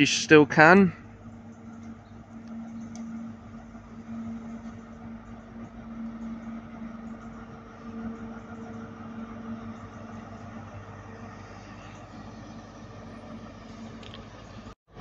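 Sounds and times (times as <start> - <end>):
train diesel engine humming: 0.0 - 15.0.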